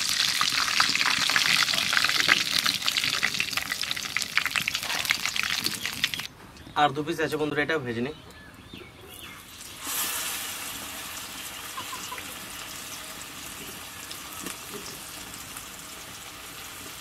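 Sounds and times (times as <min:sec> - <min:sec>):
chicken sizzling in hot oil: 0:00.0 - 0:06.3, 0:09.4 - 0:17.0.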